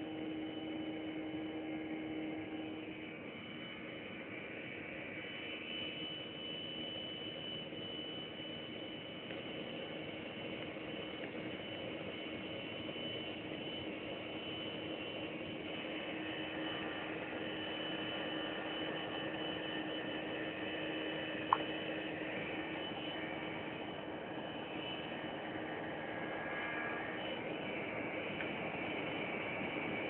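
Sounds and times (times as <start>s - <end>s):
airliner cabin engine noise: 0.0s - 30.0s.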